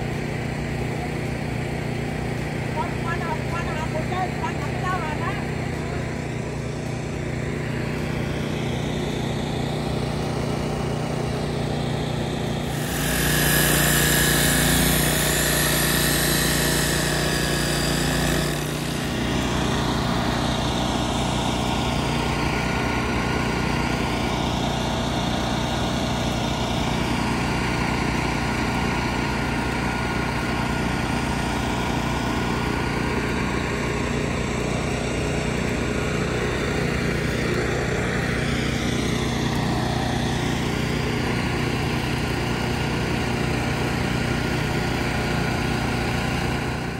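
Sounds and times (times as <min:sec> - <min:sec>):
engine running: 0:00.0 - 0:46.9.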